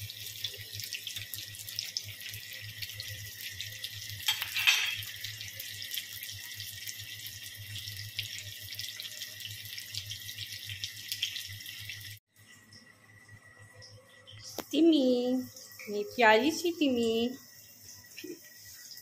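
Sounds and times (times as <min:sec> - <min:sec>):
patties sizzling in hot oil: 0:00.0 - 0:19.0.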